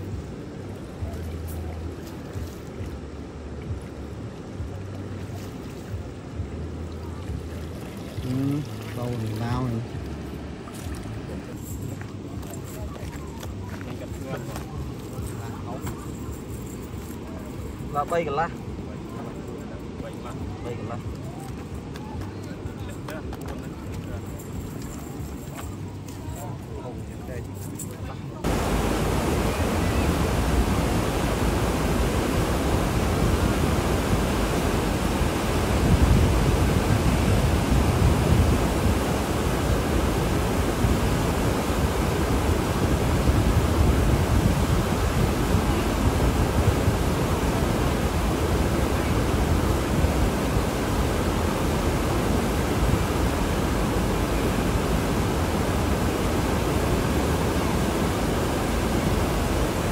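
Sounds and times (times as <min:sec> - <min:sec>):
water rushing below dam: 0:00.0 - 0:26.4, 0:28.4 - 0:59.9.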